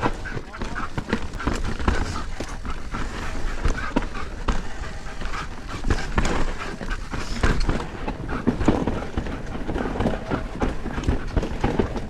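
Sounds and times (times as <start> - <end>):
bike rattling over bumps: 0.0 - 12.0
bike tyres rolling on dirt: 0.0 - 12.0
dog panting: 0.0 - 12.0.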